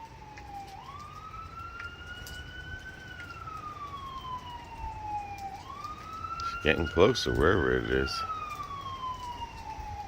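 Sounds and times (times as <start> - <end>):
emergency siren wailing: 0.0 - 10.0.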